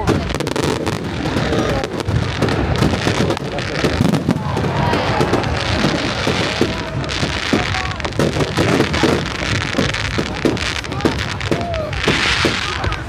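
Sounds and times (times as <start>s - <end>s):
crackling hiss of fireworks: 0.0s - 13.0s
fireworks bangs and pops: 0.0s - 13.0s.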